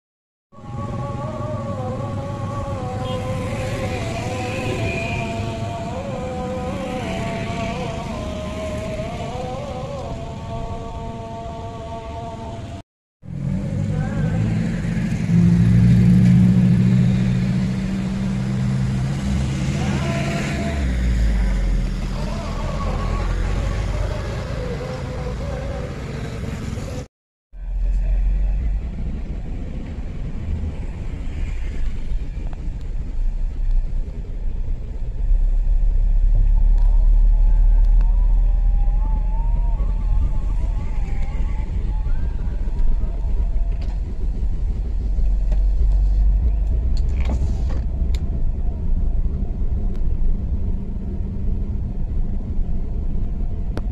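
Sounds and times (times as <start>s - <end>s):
motorcycles and cars passing: 0.6s - 12.3s, 13.3s - 27.1s, 27.8s - 53.9s.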